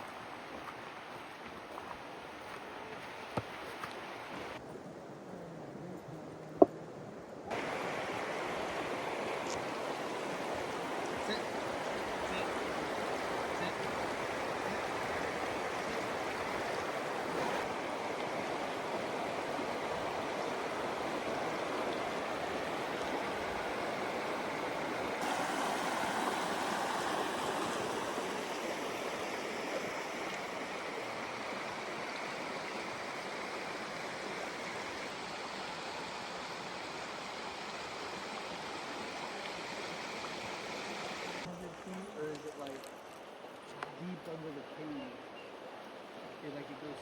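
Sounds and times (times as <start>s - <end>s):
stream water rushing: 0.0s - 4.6s, 7.5s - 47.0s.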